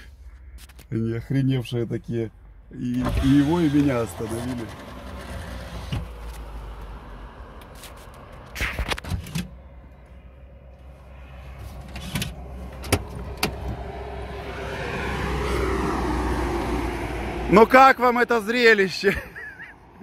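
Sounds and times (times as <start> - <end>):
vehicle rumbling: 0.0 - 20.0.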